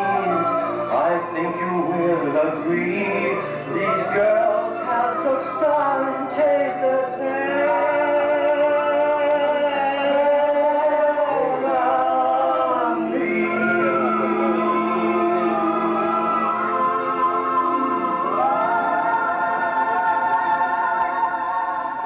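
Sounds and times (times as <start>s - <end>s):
show-tune singing with band: 0.0s - 22.0s.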